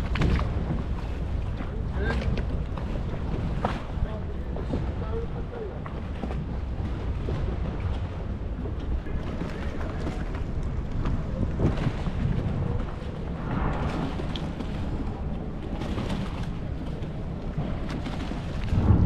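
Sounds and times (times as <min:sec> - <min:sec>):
water lapping: 0:00.0 - 0:19.0
wind rumble: 0:00.0 - 0:19.0.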